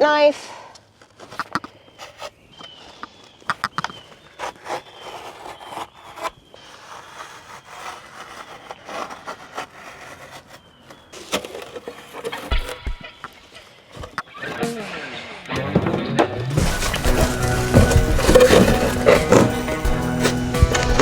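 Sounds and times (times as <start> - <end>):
knife cutting foam board: 1.1 - 14.6, 16.6 - 21.0.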